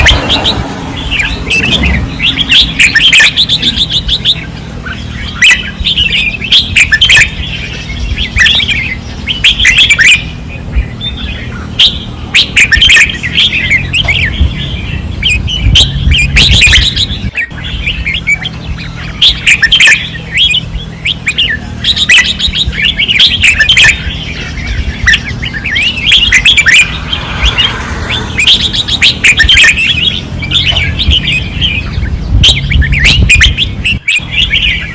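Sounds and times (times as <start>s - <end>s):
birds singing chattering phrases: 0.0s - 34.9s.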